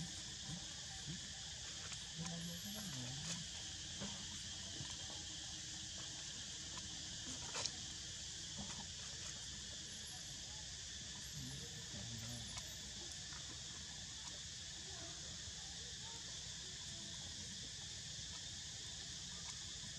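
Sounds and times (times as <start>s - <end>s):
insects buzzing: 0.0s - 19.9s.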